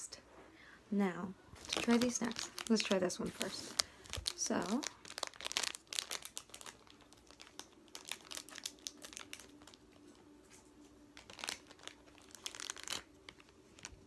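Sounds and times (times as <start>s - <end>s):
plastic wrapper crinkling: 1.5s - 10.2s, 10.8s - 14.0s.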